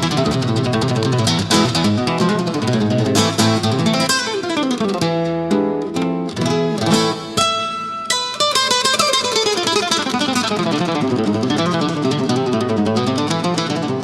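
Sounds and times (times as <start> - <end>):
flamenco guitar music: 0.0 - 14.0.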